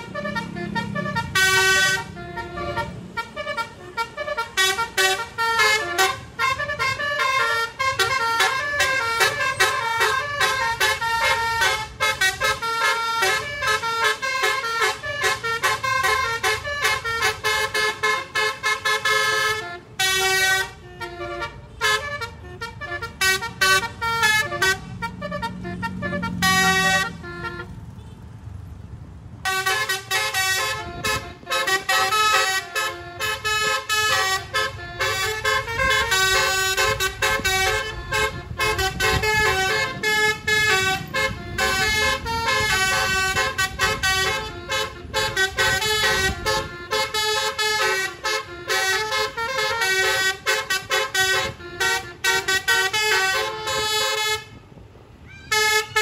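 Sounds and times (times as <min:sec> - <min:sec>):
multi-tone bus horn melody: 0:00.0 - 0:28.5, 0:29.4 - 0:56.0
bus engine running: 0:00.0 - 0:56.0.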